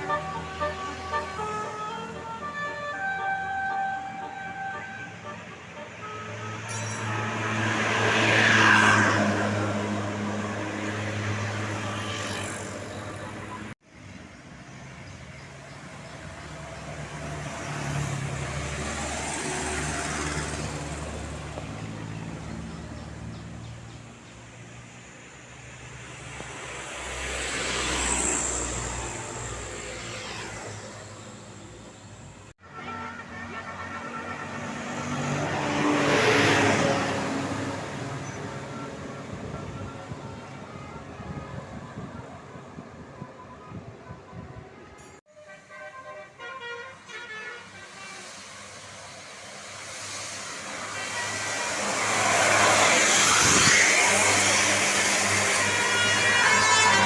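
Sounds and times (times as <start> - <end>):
vehicles driving past: 0.0 - 45.2, 46.3 - 57.0.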